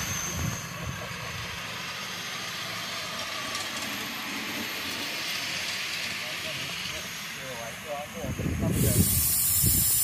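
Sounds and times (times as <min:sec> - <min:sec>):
steam locomotives hissing: 0:00.0 - 0:10.0.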